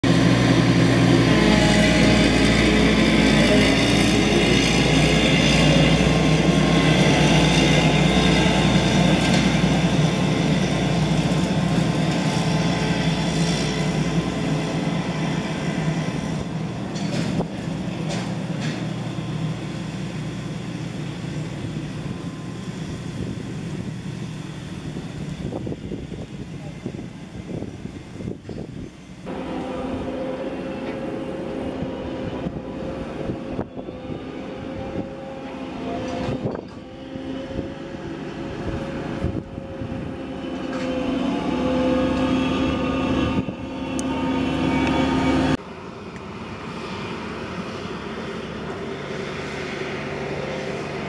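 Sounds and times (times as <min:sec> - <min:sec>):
combine harvester diesel engine: 0:00.0 - 0:51.0.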